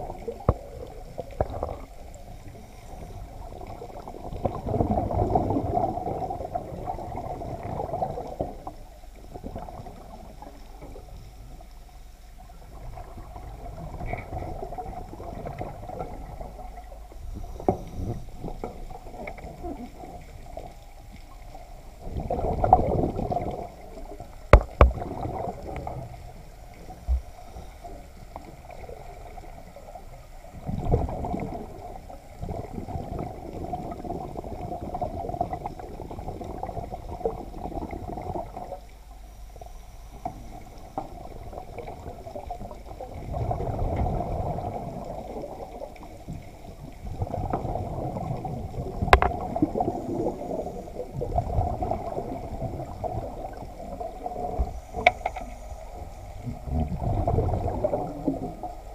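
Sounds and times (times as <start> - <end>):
muffled underwater rushing water: 0.0 - 58.9.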